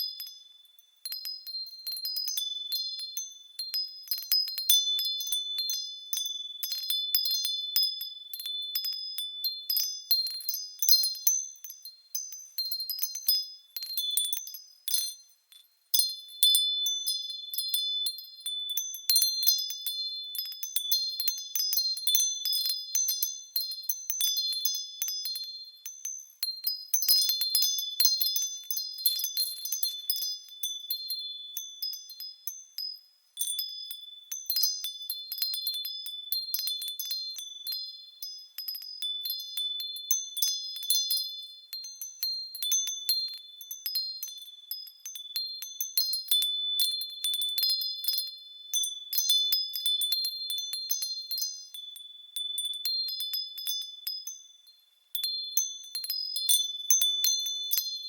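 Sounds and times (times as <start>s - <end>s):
wind chime tinkling: 0.0s - 58.0s.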